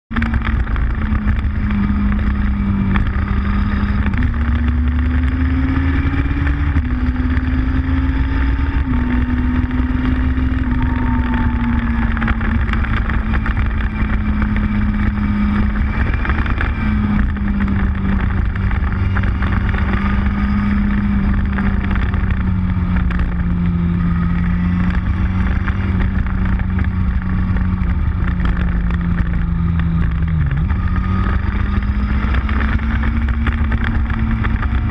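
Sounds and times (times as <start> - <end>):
motorcycle engine cruising: 0.1 - 34.9
wind and road noise: 0.1 - 34.9.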